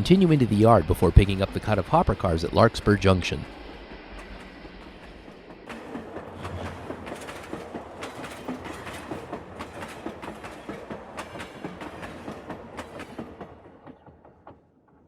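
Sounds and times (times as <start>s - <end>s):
model train wheels clicking: 0.0s - 14.0s
train running rumble: 0.0s - 14.8s.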